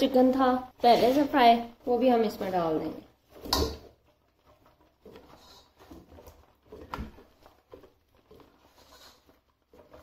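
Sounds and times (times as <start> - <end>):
stirring and scraping: 0.0 - 10.0.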